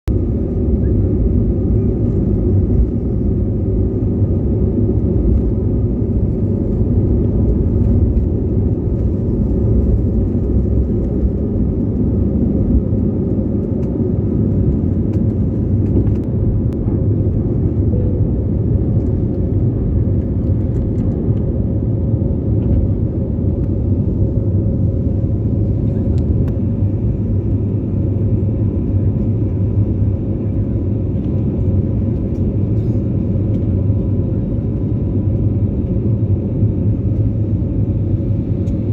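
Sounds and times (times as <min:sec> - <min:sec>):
airliner cabin rumble: 0:00.0 - 0:38.9
faint engine hum: 0:00.1 - 0:38.9.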